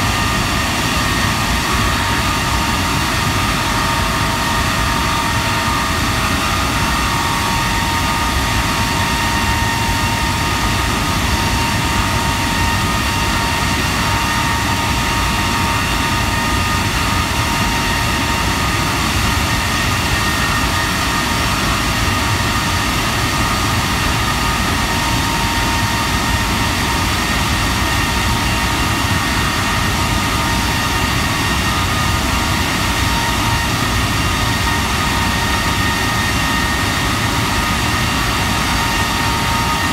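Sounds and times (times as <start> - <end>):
jet engine running with whine: 0.0 - 39.9.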